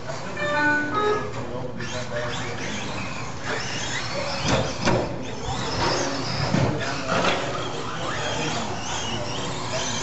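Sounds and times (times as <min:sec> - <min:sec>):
rc truck motors whining: 0:00.0 - 0:10.0.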